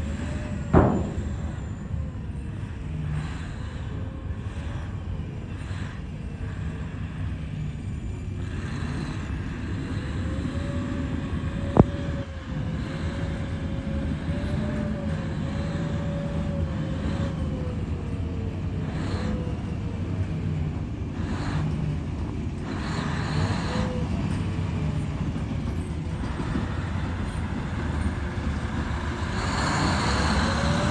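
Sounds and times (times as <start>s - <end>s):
faint whine: 0.0s - 30.9s
haul truck low rumble: 0.0s - 30.9s.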